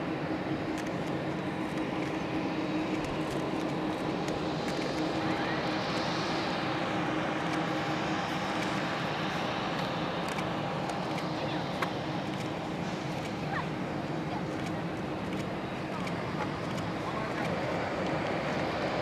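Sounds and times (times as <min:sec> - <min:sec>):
jet engine hiss: 0:00.0 - 0:19.0
jet engines rumbling: 0:00.0 - 0:19.0.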